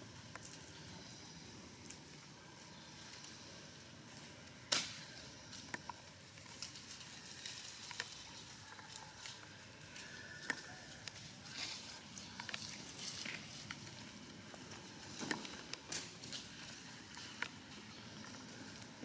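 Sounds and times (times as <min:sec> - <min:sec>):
animals rustling in dry leaves: 0:00.0 - 0:19.0.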